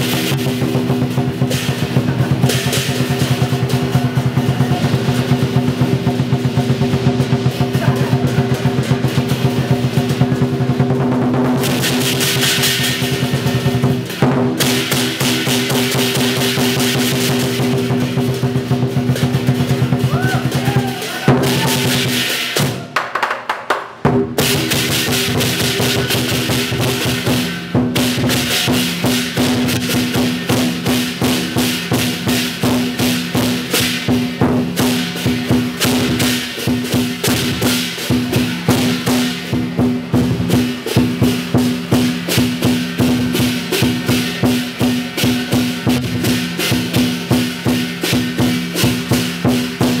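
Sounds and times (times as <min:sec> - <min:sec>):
cymbals clashing: 0:00.0 - 0:23.0, 0:24.0 - 0:50.0
drum beating fast rhythm: 0:00.0 - 0:50.0.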